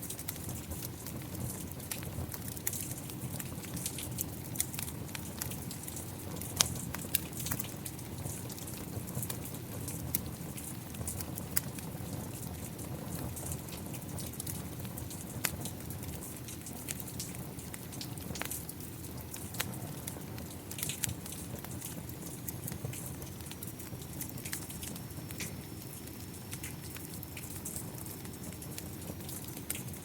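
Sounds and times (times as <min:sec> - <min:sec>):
steady rain: 0:00.0 - 0:30.0
wood fire crackling and popping: 0:00.0 - 0:30.0.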